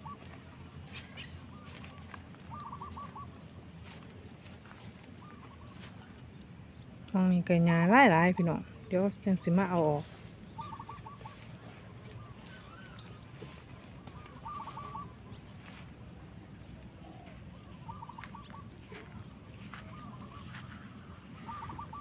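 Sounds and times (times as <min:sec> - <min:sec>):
faint stuttering bird calls: 0:00.0 - 0:03.5, 0:05.1 - 0:06.6, 0:08.4 - 0:16.0, 0:16.6 - 0:22.0
low steady background noise: 0:00.0 - 0:22.0.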